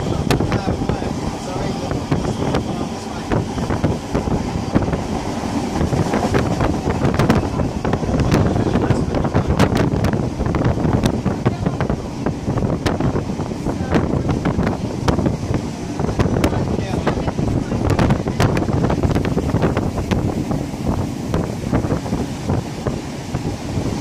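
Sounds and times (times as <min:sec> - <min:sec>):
train carriage rumbling on track: 0:00.0 - 0:24.0
wind buffeting microphone: 0:00.0 - 0:24.0.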